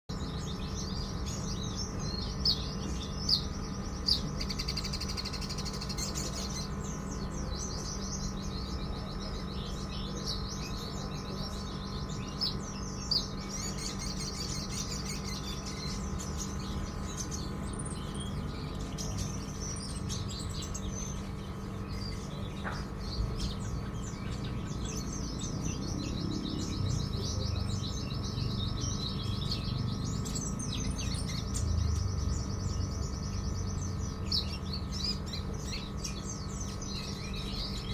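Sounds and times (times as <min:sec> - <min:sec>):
songbird chattering trills: 0:00.1 - 0:37.9
steady low hum: 0:00.1 - 0:37.9.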